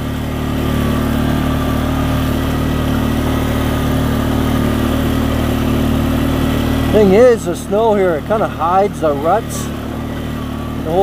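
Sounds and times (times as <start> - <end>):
quad engine running under load: 0.0 - 11.0.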